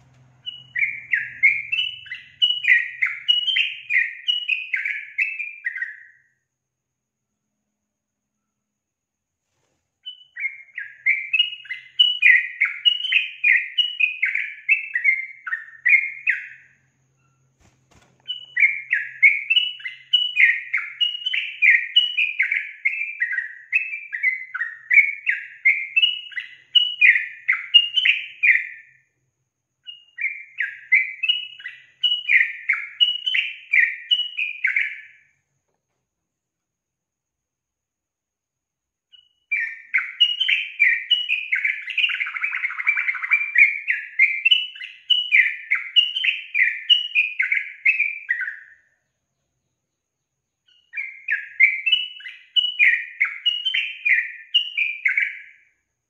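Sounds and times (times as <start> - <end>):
bird singing chattering song: 0.0 - 6.2, 10.0 - 29.0, 29.8 - 35.3, 39.1 - 48.9, 50.6 - 55.7.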